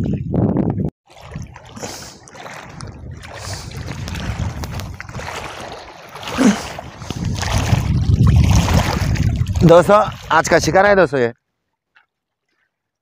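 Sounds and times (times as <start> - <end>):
water sloshing and splashing: 1.0 - 10.9, 11.5 - 13.0.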